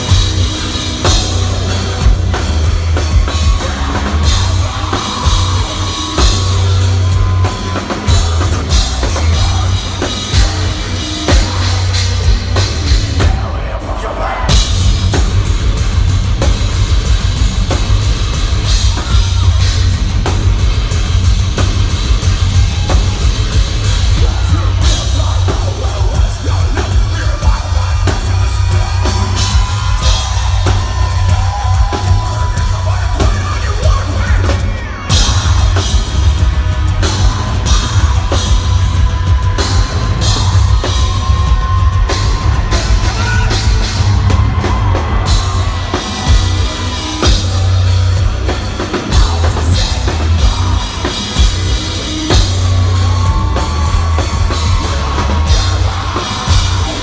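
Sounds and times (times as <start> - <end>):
distorted guitars: 0.0 - 57.0
heavy bass: 0.0 - 57.0
pounding drum kit: 0.0 - 57.0.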